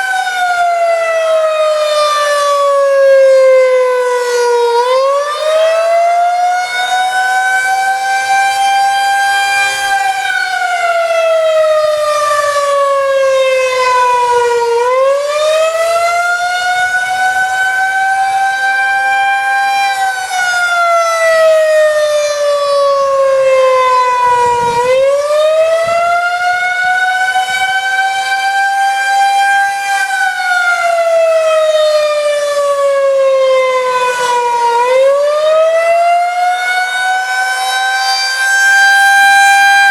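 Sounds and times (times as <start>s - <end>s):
rising and falling warning siren: 0.0s - 39.9s.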